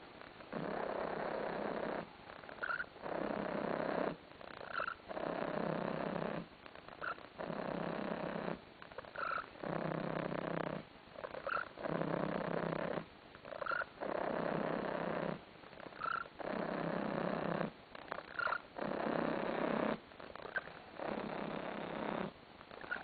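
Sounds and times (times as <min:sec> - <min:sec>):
cat purring: 0:00.2 - 0:23.0.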